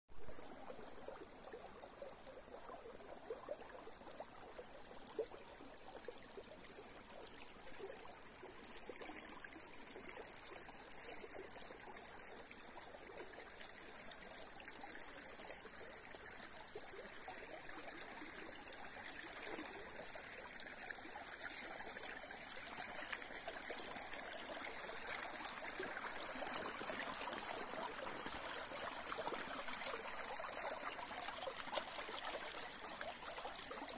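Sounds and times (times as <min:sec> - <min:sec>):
river flowing and trickling: 0:00.2 - 0:33.9.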